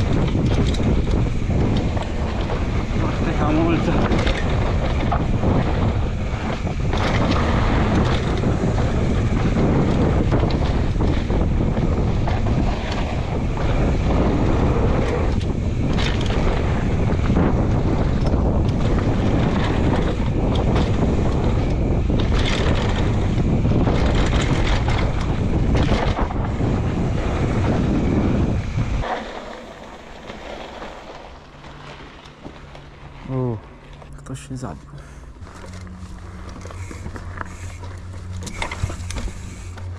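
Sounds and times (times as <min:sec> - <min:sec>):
tyre rumble: 0:00.0 - 0:34.4
bike rattling and knocking: 0:00.0 - 0:39.9
wind buffeting microphone: 0:00.0 - 0:39.9.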